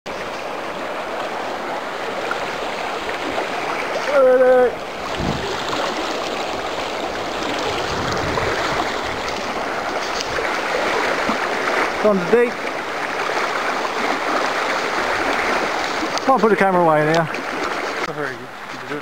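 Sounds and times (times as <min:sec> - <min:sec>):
river rushing over stones: 0:00.1 - 0:18.1.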